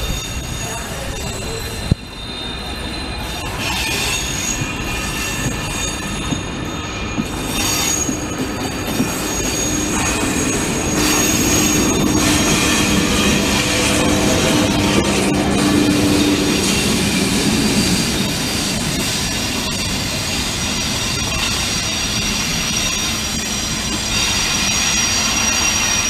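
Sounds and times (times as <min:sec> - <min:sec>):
train rumble: 0:00.0 - 0:26.0
train wheels squealing on rails: 0:00.0 - 0:26.0.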